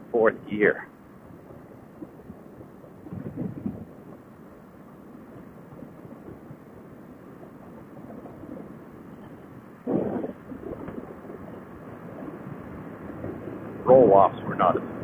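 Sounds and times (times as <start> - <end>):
muffled motorcycle riding noise: 0.0 - 15.0
wind rush: 0.0 - 15.0.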